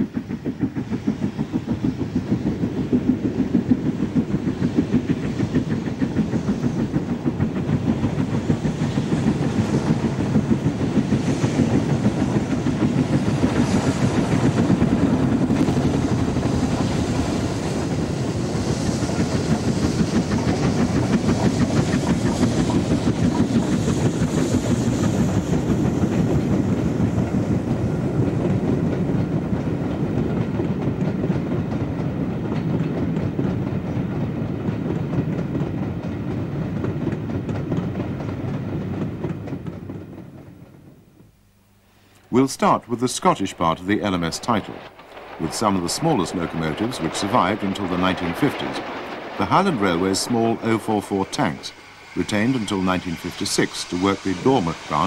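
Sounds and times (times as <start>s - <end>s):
steam locomotive exhaust beating: 0.0s - 55.0s.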